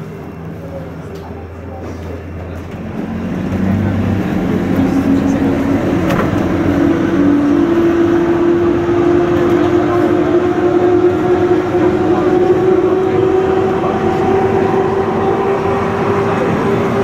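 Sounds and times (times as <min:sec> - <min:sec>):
aircraft and machinery whine: 0:00.0 - 0:17.0
rushing hum: 0:00.0 - 0:17.0.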